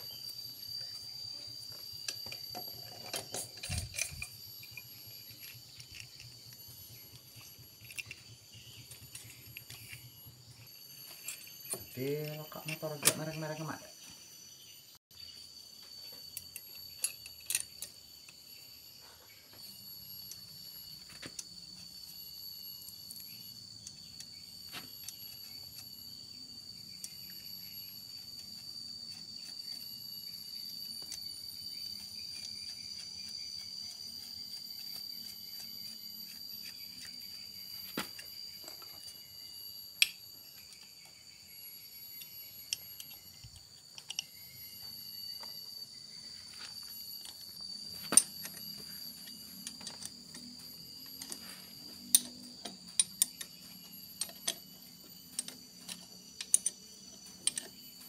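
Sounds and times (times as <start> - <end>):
steady high-pitched whine: 0.0 - 58.0.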